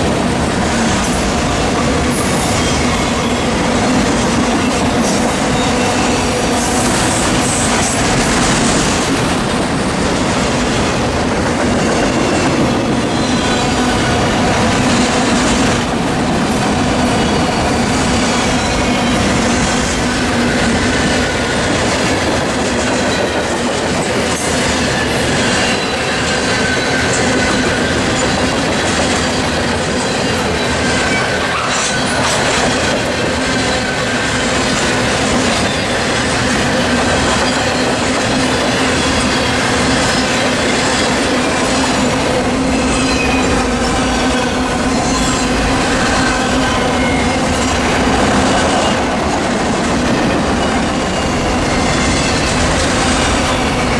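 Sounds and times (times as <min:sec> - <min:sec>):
clickety-clack over rail joints: 0:00.0 - 0:53.9
freight train wheels rumbling: 0:00.0 - 0:53.9.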